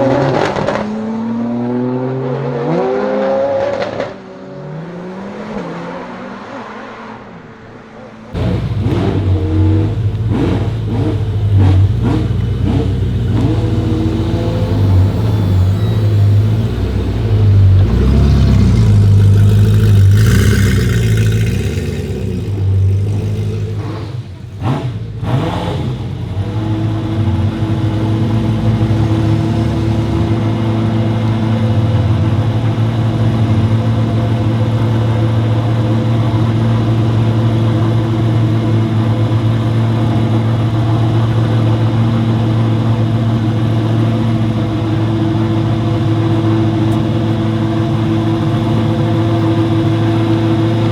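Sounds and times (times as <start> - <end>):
car engine revving: 8.3 - 50.9
car engine idling: 8.4 - 50.9.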